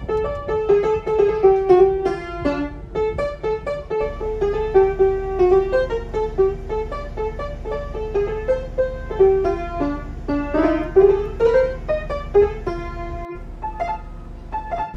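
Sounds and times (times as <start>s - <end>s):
solo piano melody: 0.0s - 14.9s.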